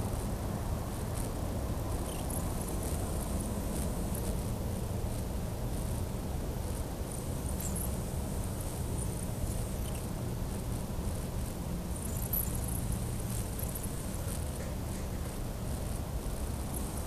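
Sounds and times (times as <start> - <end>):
low rumble with faint hum: 0.0 - 17.0.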